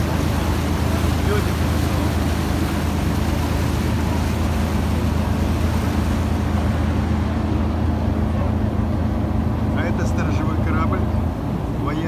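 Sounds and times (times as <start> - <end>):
boat engines droning: 0.0 - 12.0
rush of wind and water: 0.0 - 12.0.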